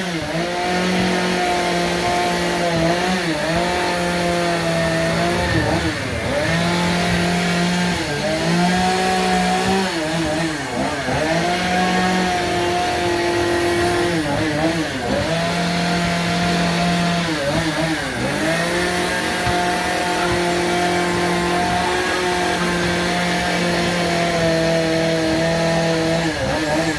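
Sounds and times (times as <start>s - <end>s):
chainsaw revving while carving wood: 0.0s - 26.9s.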